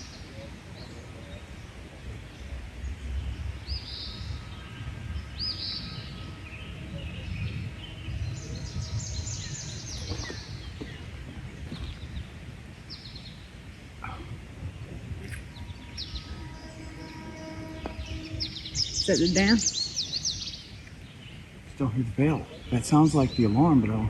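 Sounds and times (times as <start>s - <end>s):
birds chirping: 0.0s - 24.0s
low rumble of outdoor noise: 0.0s - 24.0s.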